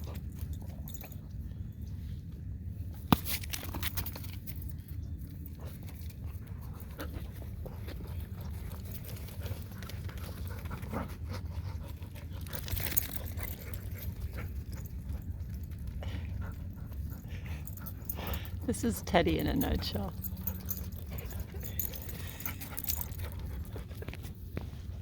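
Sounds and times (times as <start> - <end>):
dogs panting and moving: 0.0 - 25.0.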